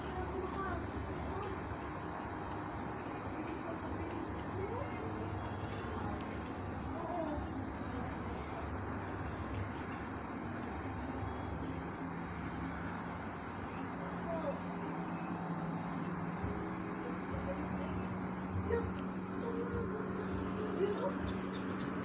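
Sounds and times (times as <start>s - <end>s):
crickets trilling: 0.0s - 22.0s
low background rumble: 0.0s - 22.0s.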